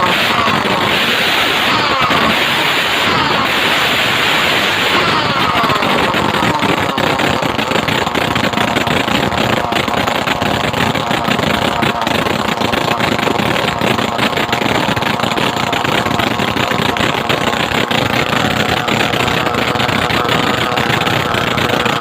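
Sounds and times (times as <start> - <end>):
brush-cutter engine running: 0.0 - 22.0.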